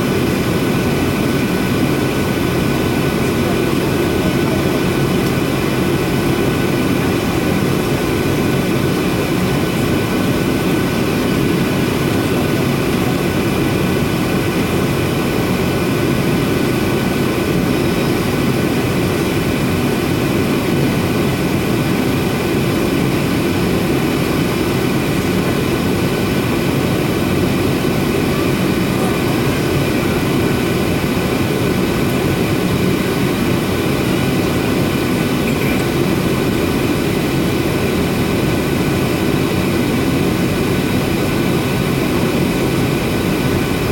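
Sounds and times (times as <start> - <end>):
jet engines rushing: 0.0 - 43.9.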